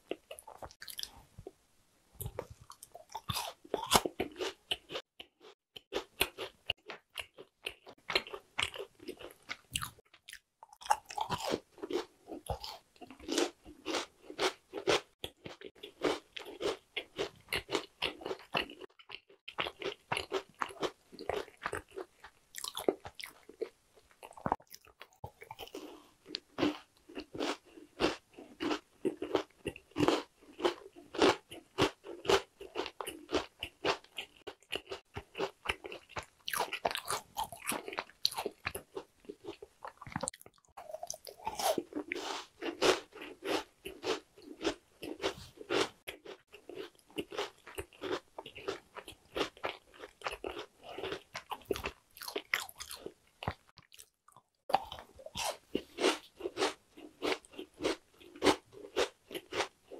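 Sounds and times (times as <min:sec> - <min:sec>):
person chewing crunchy cookies: 0:00.0 - 0:01.6, 0:02.2 - 0:59.9.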